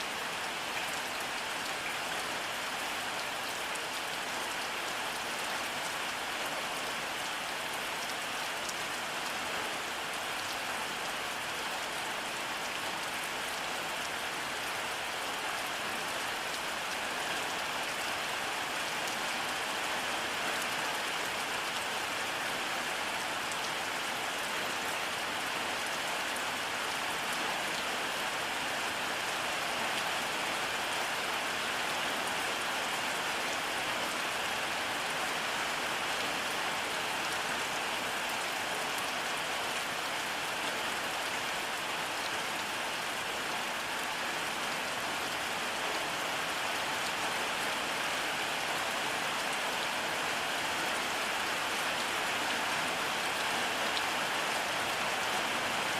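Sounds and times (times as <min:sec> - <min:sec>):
rain hissing on a surface: 0:00.0 - 0:55.9.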